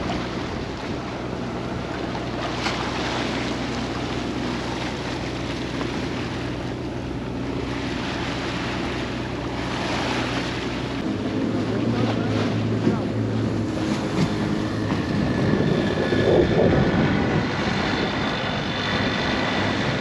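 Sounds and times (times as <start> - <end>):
sea water rushing past hull: 0.0 - 20.0
steady low hum: 0.0 - 20.0
wind buffeting microphone: 0.0 - 20.0.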